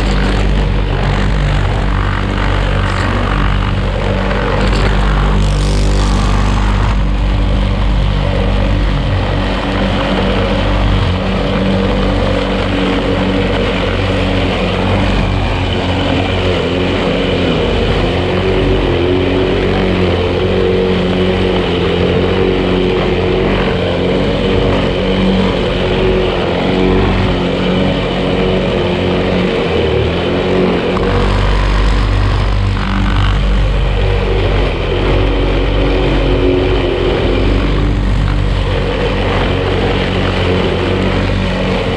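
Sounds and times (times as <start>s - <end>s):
lawn mower engine cutting grass: 0.0s - 41.9s.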